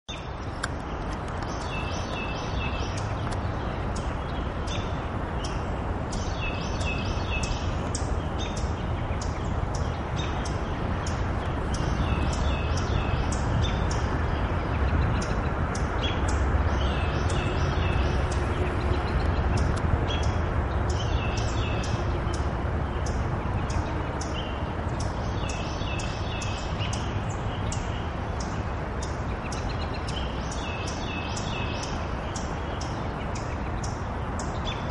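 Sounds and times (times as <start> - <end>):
songbirds chirping: 0.1 - 34.9
low background rumble: 0.3 - 30.6.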